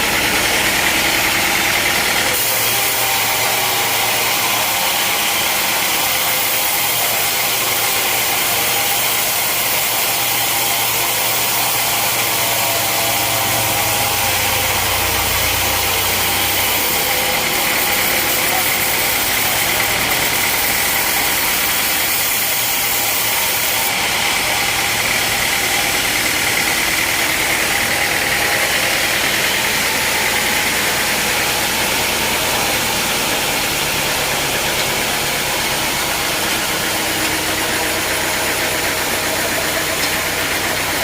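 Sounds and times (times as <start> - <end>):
engine droning: 0.0 - 5.9, 10.3 - 41.0.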